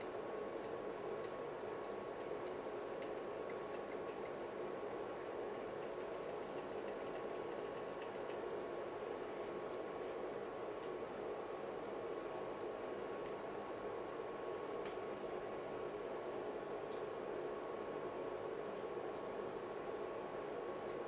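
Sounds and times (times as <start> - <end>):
faint high hum: 0.0 - 21.0.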